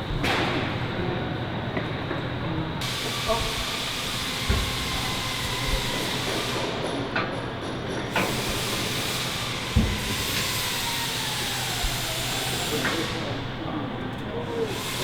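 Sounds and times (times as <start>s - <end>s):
steady workshop hiss: 2.2s - 15.0s.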